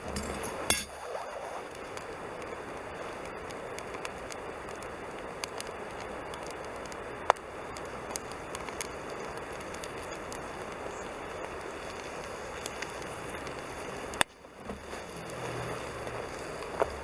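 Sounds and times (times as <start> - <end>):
campfire crackling: 0.0 - 17.0
fire hiss: 0.0 - 17.0.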